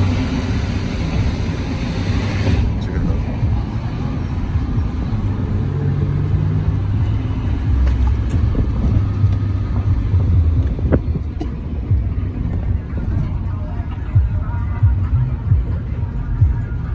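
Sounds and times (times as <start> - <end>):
deep vehicle engine rumble: 0.0 - 16.9.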